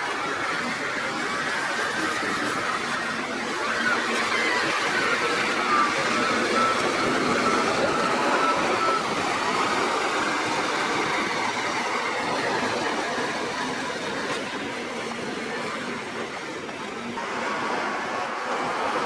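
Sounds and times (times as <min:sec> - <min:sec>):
faint whine: 0:00.0 - 0:19.0.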